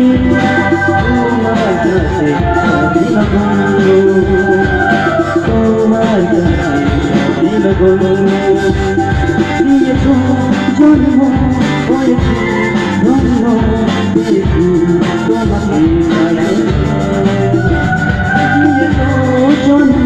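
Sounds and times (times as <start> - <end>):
instrumental accompaniment with beat: 0.0 - 20.0
person singing a song: 0.0 - 20.0.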